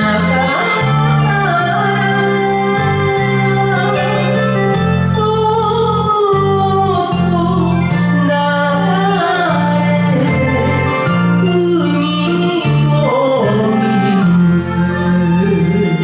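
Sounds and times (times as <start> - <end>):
karaoke backing track: 0.0 - 16.0
woman singing a ballad: 0.0 - 16.0.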